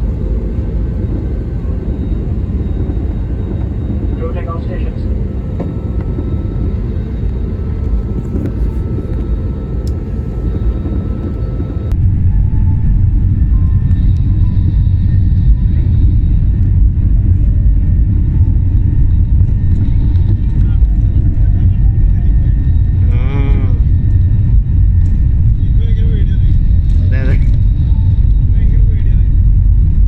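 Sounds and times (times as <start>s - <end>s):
airliner cabin engine rumble: 0.0s - 30.0s.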